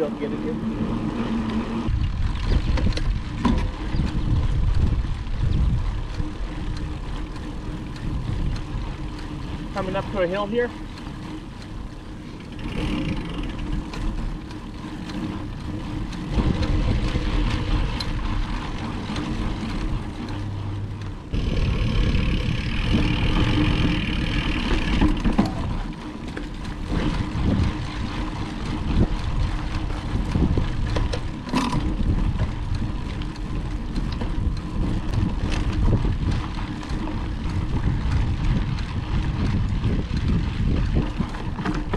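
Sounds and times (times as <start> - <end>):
bike knocks and rattles: 0.0 - 20.4, 21.1 - 41.9
bike tyres rumbling on dirt: 0.0 - 41.9
wind buffeting microphone: 0.0 - 41.9.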